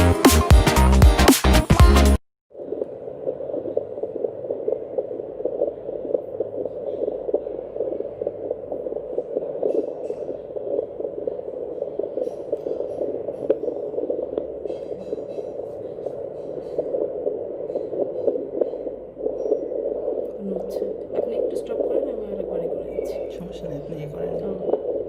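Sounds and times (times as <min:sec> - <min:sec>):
pulsing heartbeat whoosh: 0:02.6 - 0:25.0.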